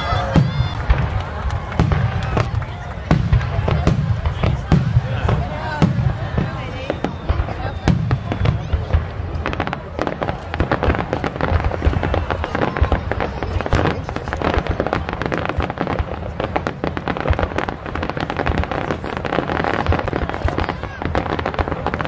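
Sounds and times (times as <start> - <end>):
fireworks launching and bursting: 0.0 - 22.0.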